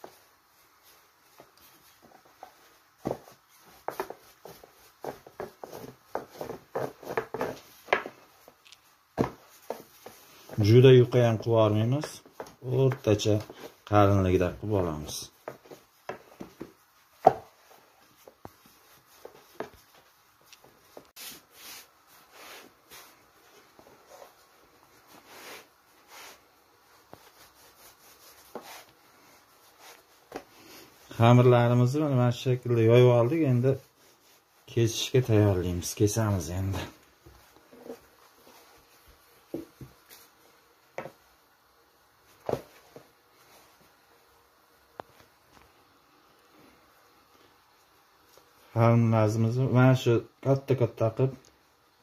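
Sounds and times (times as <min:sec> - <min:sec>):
rolling pin swishing over dough: 0:00.0 - 0:45.8.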